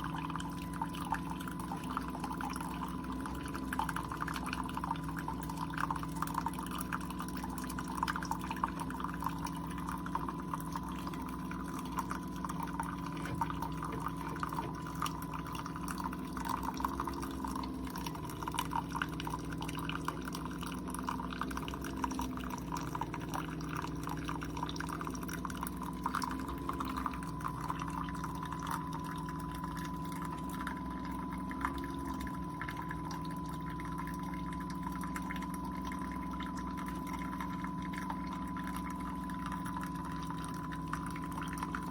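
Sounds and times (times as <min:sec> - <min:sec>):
coffee maker pump humming: 0:00.0 - 0:41.9
coffee pouring and dripping: 0:00.0 - 0:41.9.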